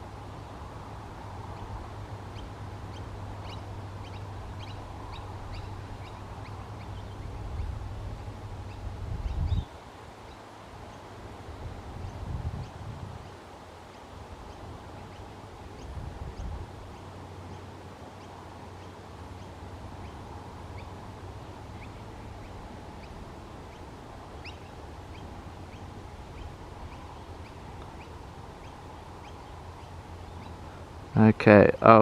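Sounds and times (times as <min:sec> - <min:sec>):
low outdoor rumble: 0:00.0 - 0:32.0
small birds chirping: 0:01.4 - 0:11.1, 0:11.9 - 0:32.0.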